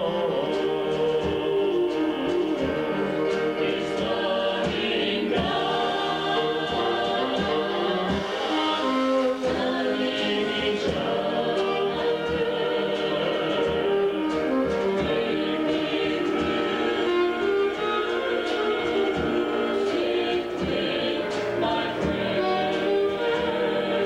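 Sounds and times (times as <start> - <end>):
instrumental accompaniment with beat: 0.0 - 24.0
vocal group singing in harmony: 0.0 - 24.0.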